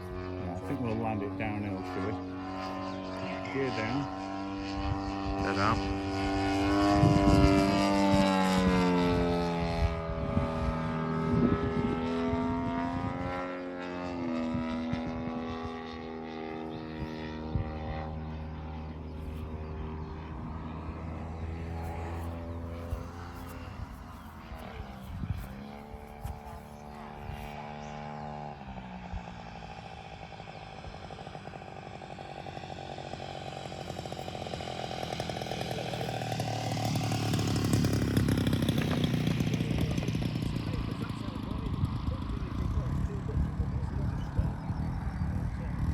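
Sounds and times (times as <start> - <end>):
model airplane engine: 0.0 - 45.9.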